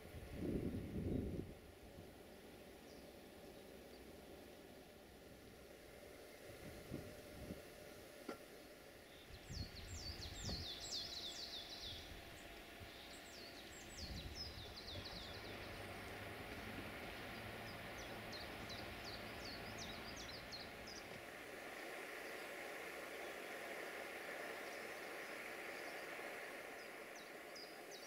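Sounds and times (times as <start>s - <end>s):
faint outdoor rumble: 0.0s - 28.0s
songbird singing: 2.1s - 6.6s, 8.2s - 28.0s.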